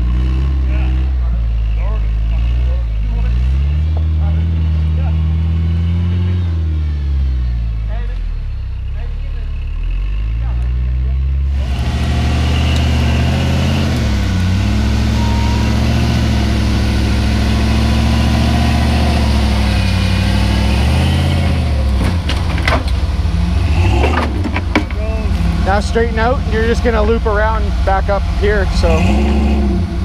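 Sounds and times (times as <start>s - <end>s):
buggy engine running at low revs: 0.0s - 30.0s.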